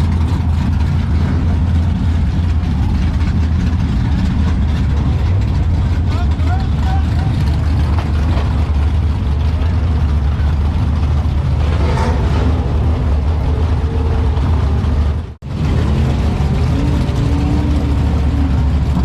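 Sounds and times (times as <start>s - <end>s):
race car engine rumbling: 0.0s - 19.0s.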